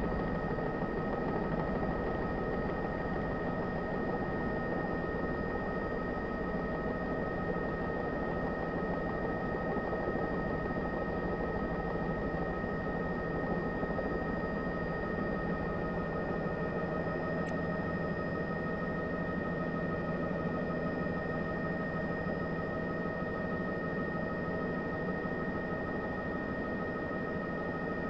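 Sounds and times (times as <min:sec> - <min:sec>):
helicopter engine and rotor: 0:00.0 - 0:28.0.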